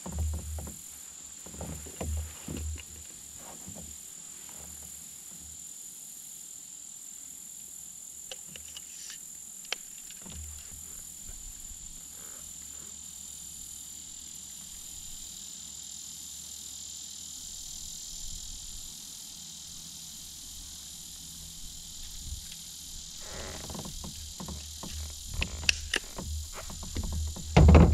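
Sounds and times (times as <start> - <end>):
chorus of insects: 0.0 - 27.9.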